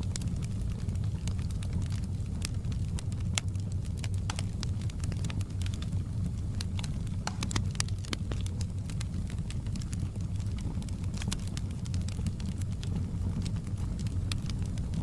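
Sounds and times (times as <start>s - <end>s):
burning wood crackling and popping: 0.0s - 15.0s
low roar of flames: 0.0s - 15.0s.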